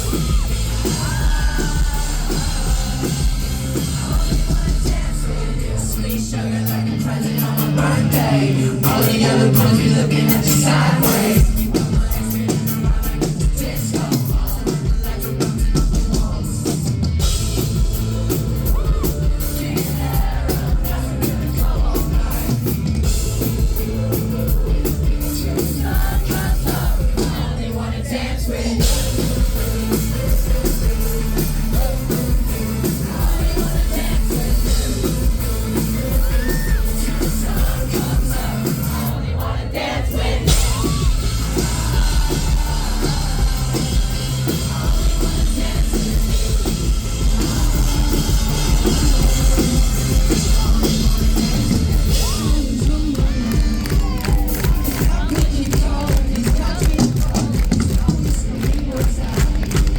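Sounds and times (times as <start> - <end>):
crowd noise: 0.0 - 59.9
pop-rock band playing live: 0.0 - 59.9.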